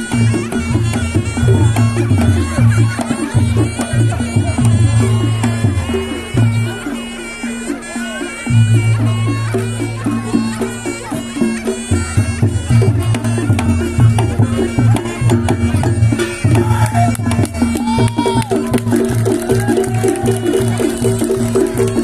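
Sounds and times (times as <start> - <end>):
drums: 0.0 - 22.0
shawm melody: 0.0 - 22.0.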